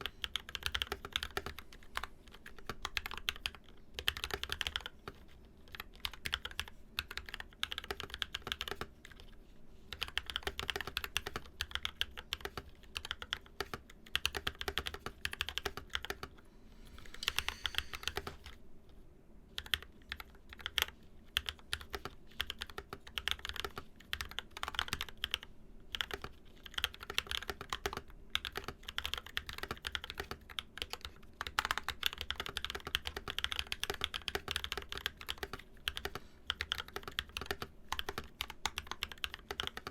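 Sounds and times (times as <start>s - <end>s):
fast typing on mechanical keyboard: 0.0s - 16.4s, 17.3s - 18.6s, 19.5s - 39.9s.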